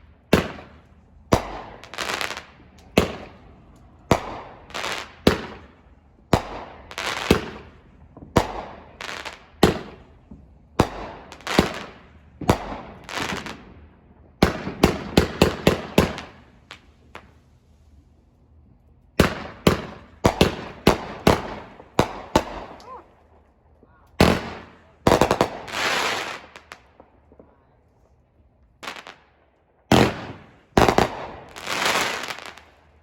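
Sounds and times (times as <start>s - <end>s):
fireworks bursting: 0.0s - 18.3s, 19.2s - 27.7s, 29.9s - 33.0s.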